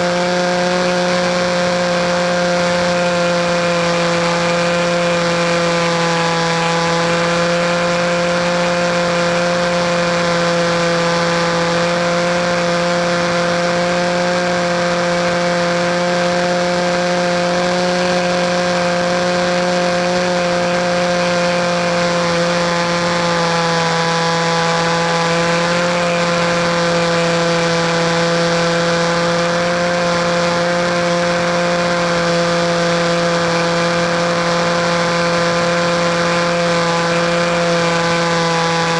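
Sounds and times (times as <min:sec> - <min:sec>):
model airplane engine at high throttle: 0:00.0 - 0:38.9.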